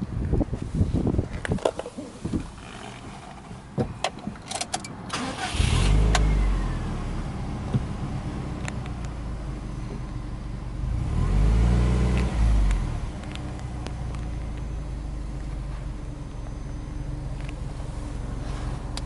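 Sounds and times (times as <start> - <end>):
car engine starting and idling: 1.2 - 19.0.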